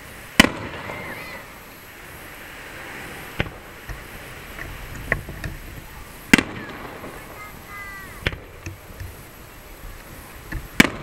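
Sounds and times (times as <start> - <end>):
firework shells bursting: 0.2 - 2.0, 2.7 - 11.0.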